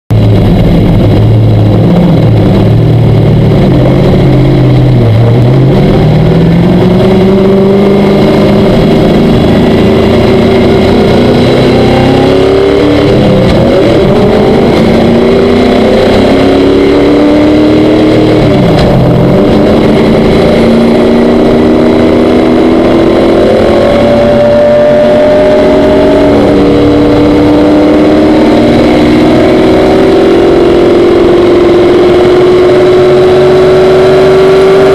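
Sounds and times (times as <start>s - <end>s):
car engine accelerating through gears: 0.1s - 34.9s.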